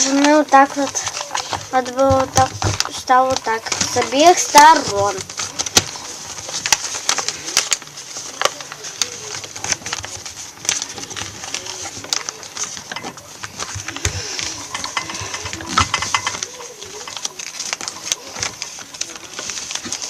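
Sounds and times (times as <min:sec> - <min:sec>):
paper rustling and crackling: 0:00.0 - 0:20.0.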